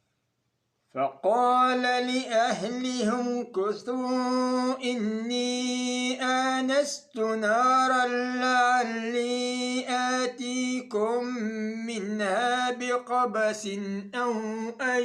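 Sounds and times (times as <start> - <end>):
man chanting recitation: 1.0 - 15.0.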